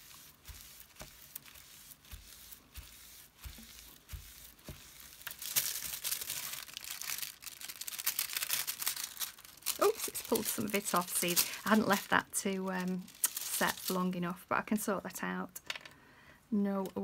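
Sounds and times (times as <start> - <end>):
foil sheet crinkling and rustling: 0.0 - 14.3.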